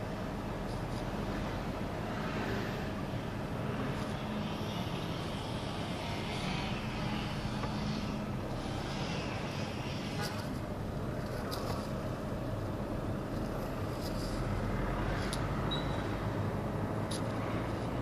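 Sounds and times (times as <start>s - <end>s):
road noise inside car: 0.0s - 18.0s.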